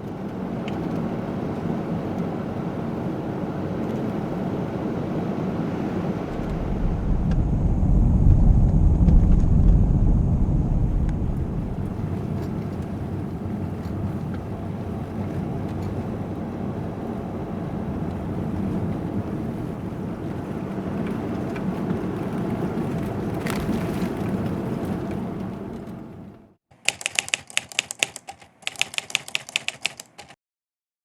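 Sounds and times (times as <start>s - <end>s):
car engine and tyre rumble: 0.0s - 26.6s
wind noise: 0.1s - 26.3s.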